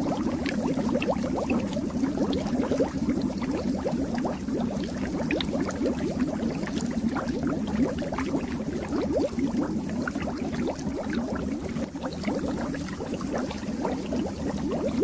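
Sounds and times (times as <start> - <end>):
fish tank water bubbling: 0.0 - 15.0.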